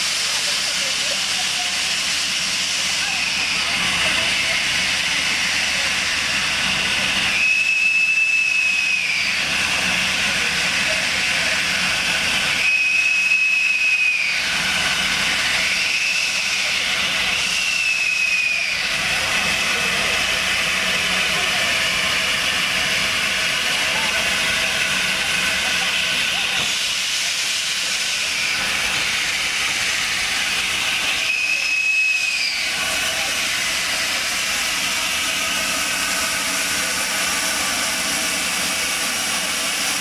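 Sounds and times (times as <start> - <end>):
steam locomotive hissing: 0.0 - 40.0
steam whistle blasts: 2.9 - 10.6, 11.8 - 39.8.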